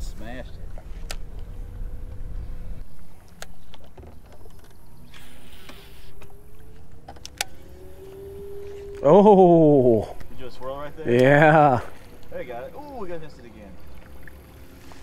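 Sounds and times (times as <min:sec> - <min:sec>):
small boat motor running: 0:00.0 - 0:15.0.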